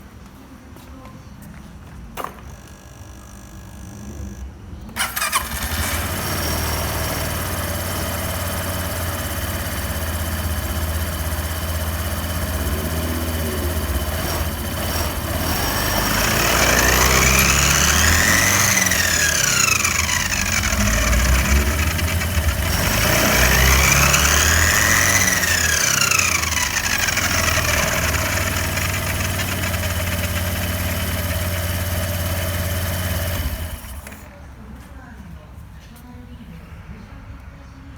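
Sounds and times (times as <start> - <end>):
scooter engine starting and revving: 2.4 - 34.4.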